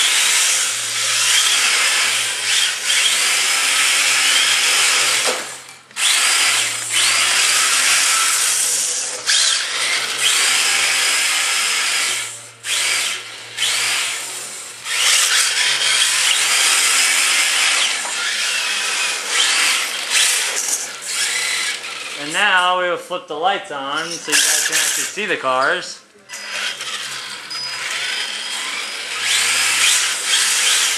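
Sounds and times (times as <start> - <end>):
electric motors whining: 0.0 - 22.7, 24.0 - 25.4, 26.2 - 30.9.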